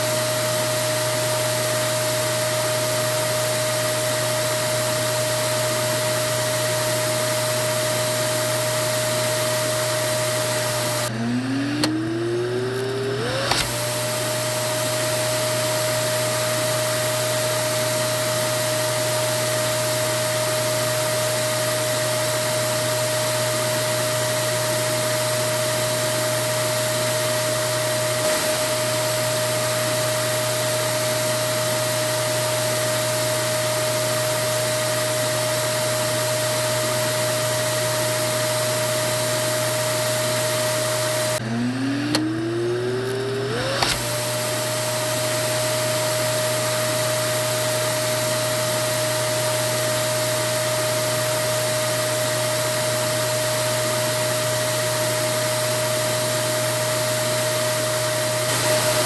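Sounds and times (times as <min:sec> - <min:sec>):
vacuum cleaner motor whining: 0:00.0 - 0:59.0.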